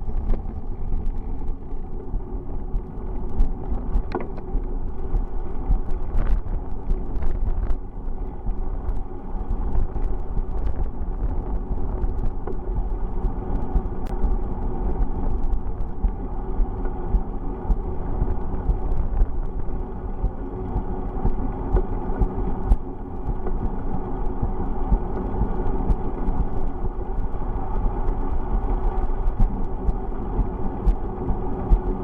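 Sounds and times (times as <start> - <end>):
road and tyre noise: 0.0 - 32.0
wind buffeting microphone: 0.0 - 32.0.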